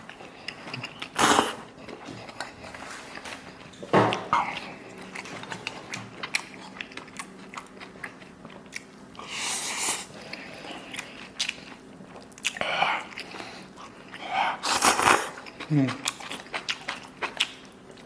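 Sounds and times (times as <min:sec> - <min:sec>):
chewing with wet mouth smacks: 0:00.1 - 0:09.4, 0:10.1 - 0:14.4, 0:15.0 - 0:18.0.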